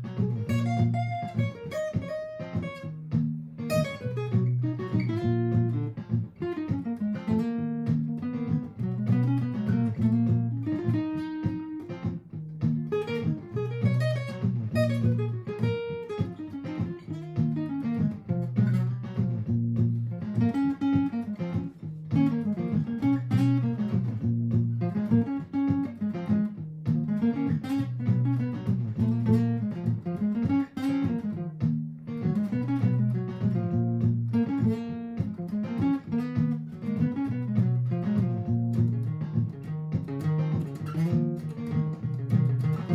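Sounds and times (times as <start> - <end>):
looped acoustic guitar rhythm: 0.0 - 42.9
picked guitar single-note lines: 0.0 - 42.9.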